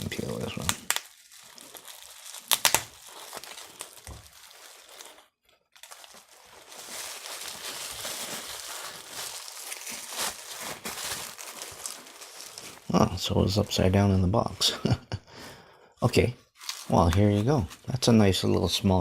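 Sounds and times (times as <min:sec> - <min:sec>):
plastic packaging crinkling: 0:00.0 - 0:14.0, 0:16.5 - 0:18.1.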